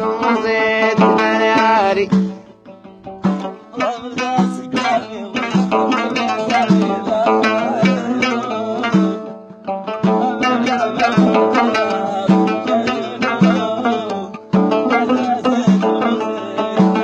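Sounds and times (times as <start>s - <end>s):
deep hand drum beat: 0.0s - 17.0s
plucked string instrument melody: 0.0s - 17.0s.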